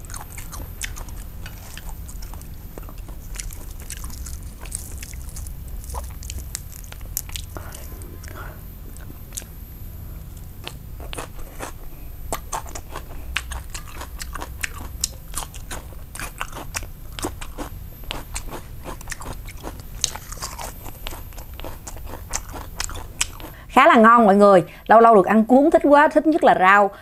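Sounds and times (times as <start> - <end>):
crisp chewing crunches: 0.0 - 9.6, 10.3 - 23.6.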